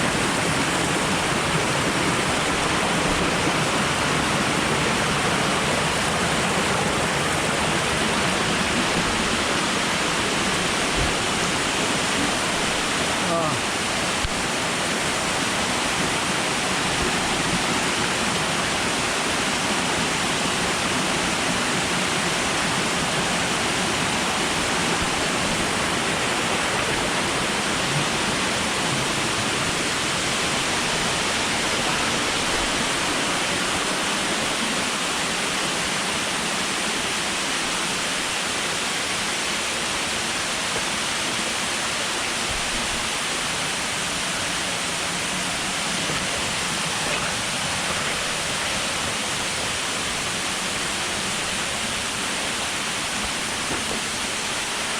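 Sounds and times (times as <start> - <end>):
falling water rushing: 0.0 - 54.9.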